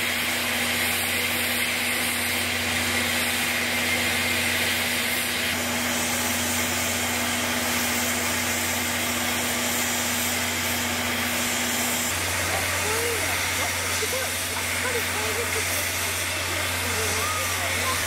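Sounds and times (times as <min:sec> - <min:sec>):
steam locomotive hissing: 0:00.0 - 0:18.0.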